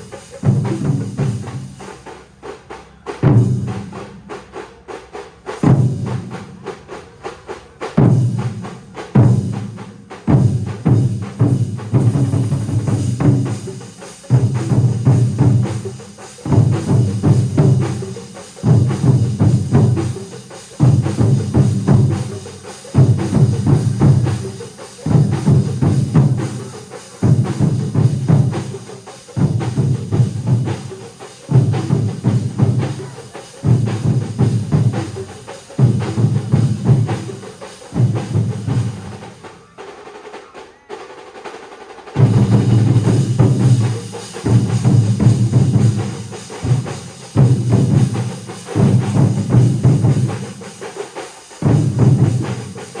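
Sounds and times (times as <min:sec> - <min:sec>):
massed drumming: 0:00.0 - 0:40.5, 0:41.2 - 0:53.0.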